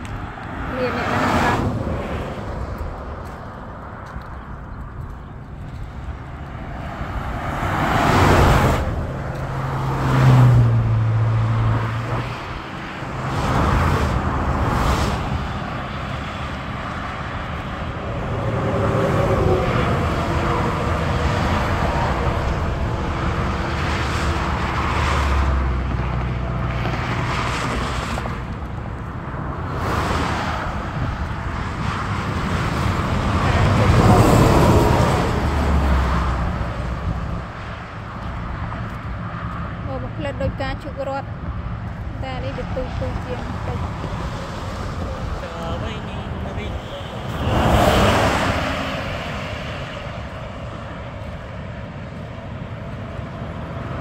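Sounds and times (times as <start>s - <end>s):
cars and trucks passing: 0.0s - 54.0s
steady road noise: 0.0s - 54.0s.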